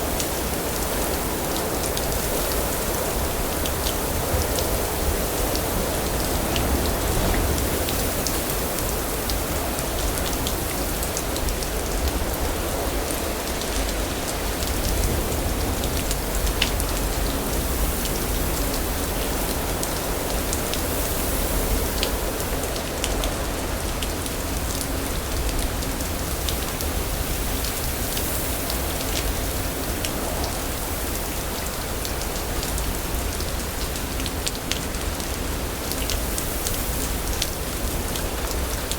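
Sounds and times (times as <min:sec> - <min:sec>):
heavy rain with drops ticking: 0:00.0 - 0:38.9.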